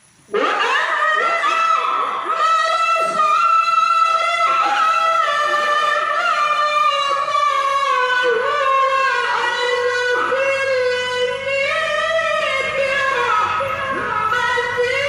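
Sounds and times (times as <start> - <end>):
person reciting melodically: 0.3 - 15.0.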